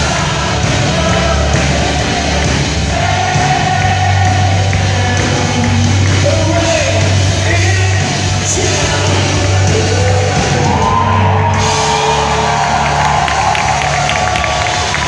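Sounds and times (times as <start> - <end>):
live band playing worship song: 0.0 - 15.0.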